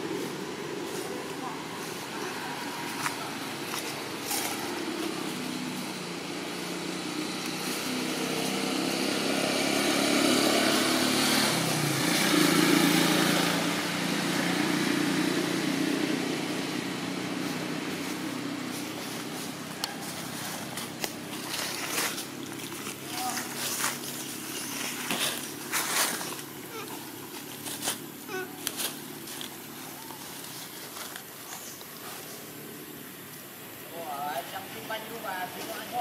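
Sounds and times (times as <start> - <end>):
vehicle engine passing by: 0.0 - 33.2.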